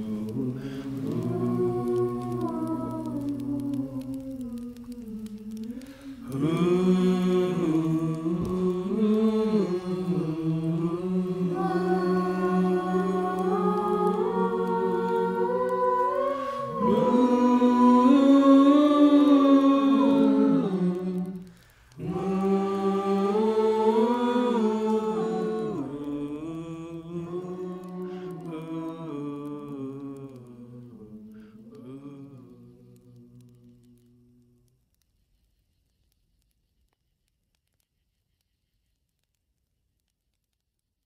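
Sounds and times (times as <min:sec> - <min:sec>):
voices singing a hymn: 0:00.0 - 0:34.2.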